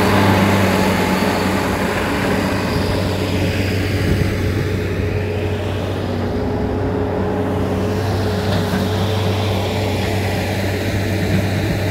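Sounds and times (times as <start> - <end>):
engine droning: 0.0 - 11.9.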